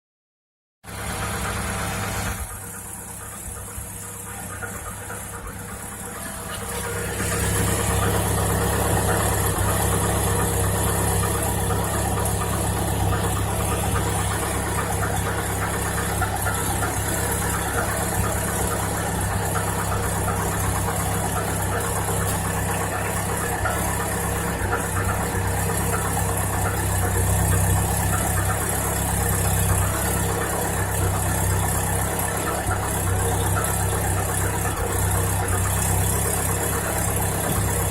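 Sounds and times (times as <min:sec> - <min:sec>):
car engine idling with knock: 0:00.8 - 0:37.9.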